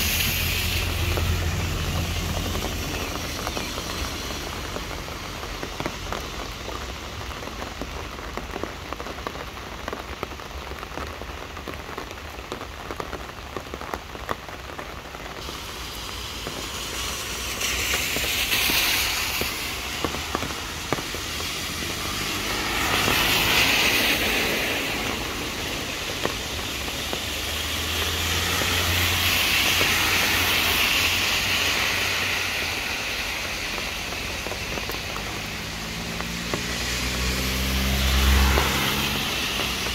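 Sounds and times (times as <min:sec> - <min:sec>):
patter of raindrops: 0:00.0 - 0:39.9
rain falling on leaves: 0:00.0 - 0:39.9.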